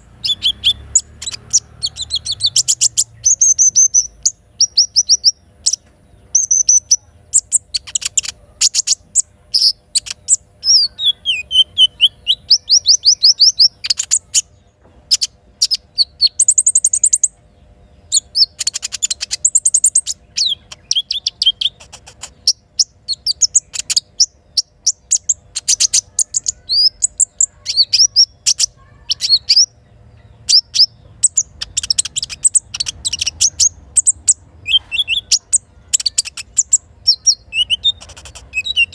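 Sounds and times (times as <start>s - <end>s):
bird chirps and trills: 0.0s - 38.9s.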